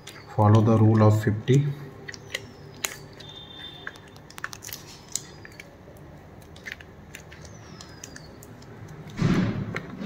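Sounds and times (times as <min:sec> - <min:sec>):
casting tape crackling: 0:00.0 - 0:10.0.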